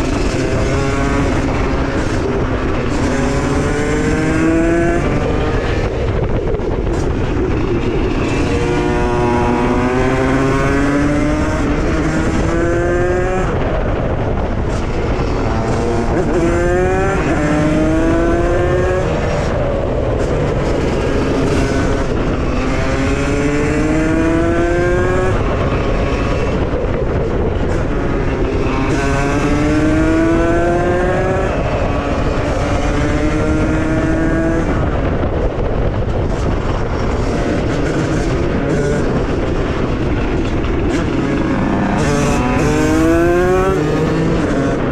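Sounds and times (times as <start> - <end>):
motorcycle two-stroke engine revving: 0.0 - 35.1, 36.2 - 44.9.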